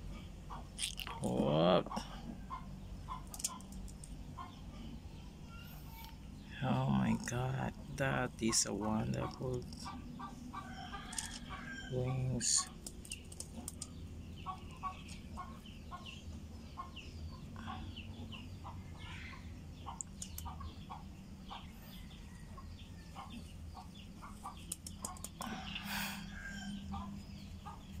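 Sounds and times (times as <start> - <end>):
chickens clucking and peeping: 0.0 - 28.0.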